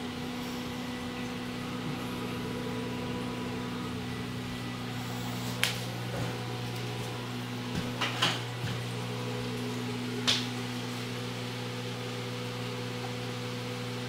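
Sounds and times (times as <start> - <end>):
electrical hum with fan hiss: 0.0 - 14.0.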